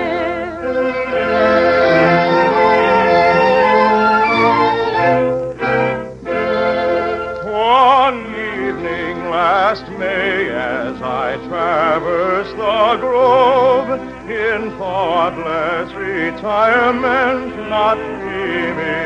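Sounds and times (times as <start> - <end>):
soprano singing opera: 0.0 - 5.0, 6.3 - 19.0
orchestral accompaniment: 0.0 - 19.0.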